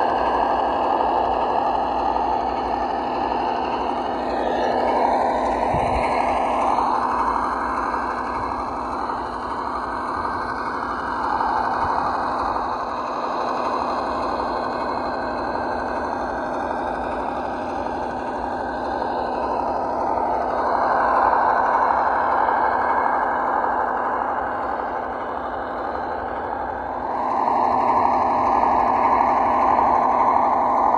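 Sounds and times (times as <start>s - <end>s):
simulated engine through small speaker: 0.0s - 30.9s.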